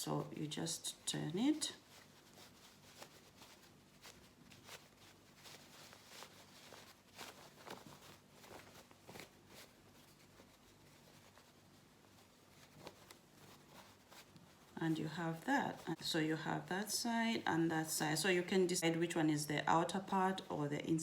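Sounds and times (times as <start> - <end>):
cotton fabric rustling: 0.0 - 21.0.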